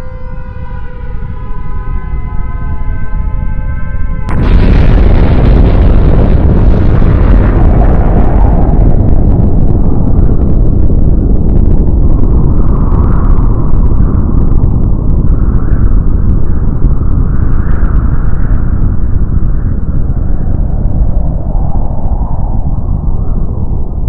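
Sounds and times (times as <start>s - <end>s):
deep explosion rumble: 0.0s - 24.0s.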